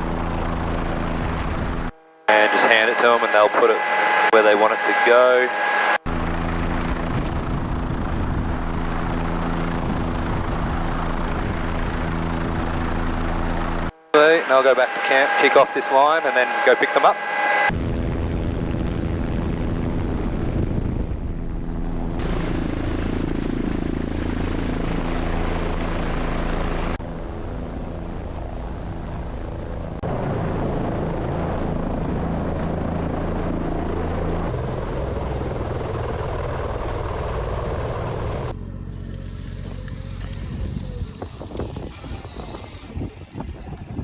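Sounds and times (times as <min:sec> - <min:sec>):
helicopter rotor and turbine: 0:00.0 - 0:44.0.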